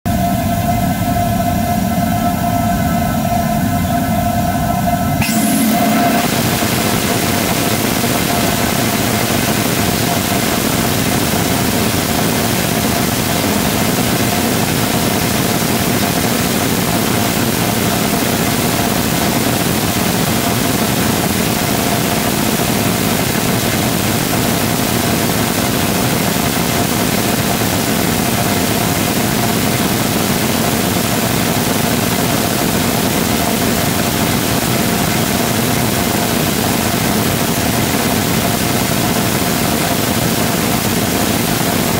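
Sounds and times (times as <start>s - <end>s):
rocket engine firing: 5.0s - 41.9s.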